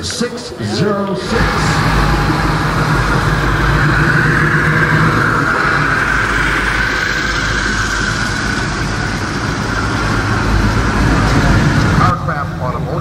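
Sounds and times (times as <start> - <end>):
car engine rumbling past: 1.2 - 12.6.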